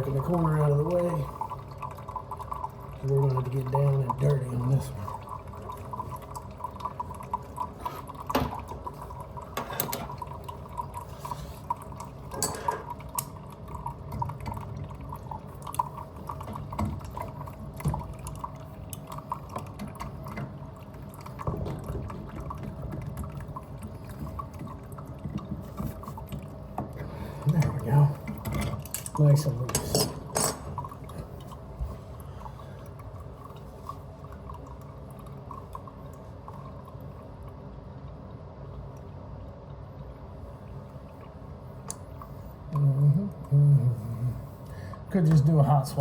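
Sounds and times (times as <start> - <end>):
water dripping and trickling: 0.0 - 46.0.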